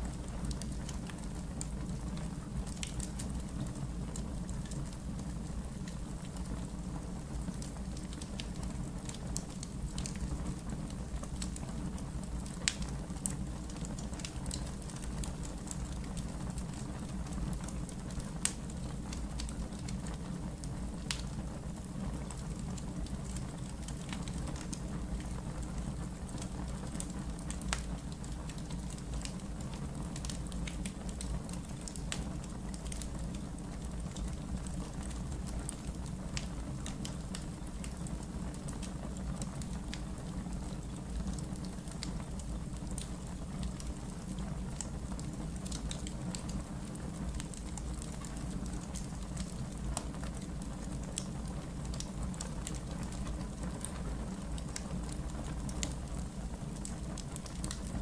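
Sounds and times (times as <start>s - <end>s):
wood fire burning in fireplace: 0.0s - 58.0s.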